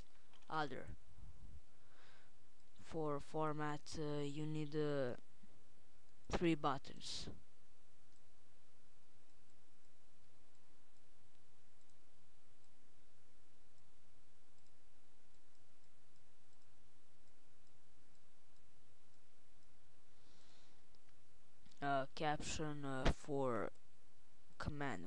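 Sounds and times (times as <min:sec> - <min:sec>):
background hiss: 0:00.0 - 0:02.8, 0:04.0 - 0:25.0
low electrical hum: 0:00.0 - 0:25.0.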